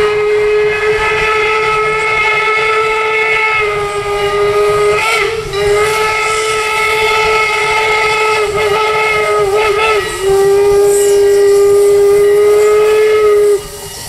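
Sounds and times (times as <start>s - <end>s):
steam hiss: 0.0s - 14.0s
steam whistle chord: 0.0s - 14.0s.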